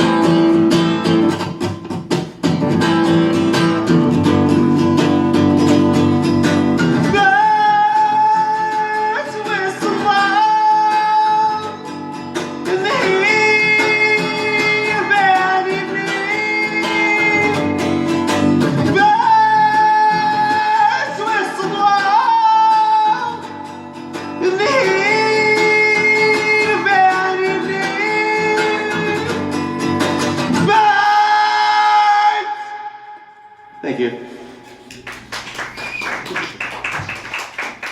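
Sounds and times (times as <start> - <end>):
acoustic guitar: 0.0 - 37.9.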